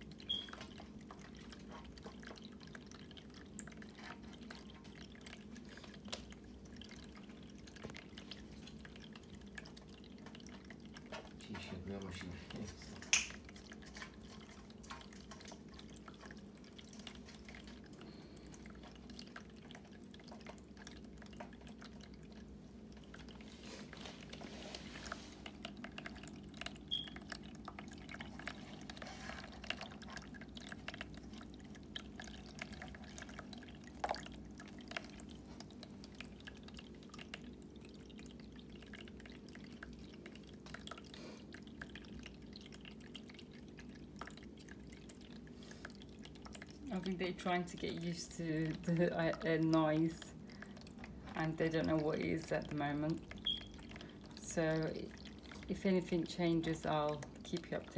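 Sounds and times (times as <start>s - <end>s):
pump humming: 0.0s - 57.9s
water trickling and dripping: 0.0s - 57.9s.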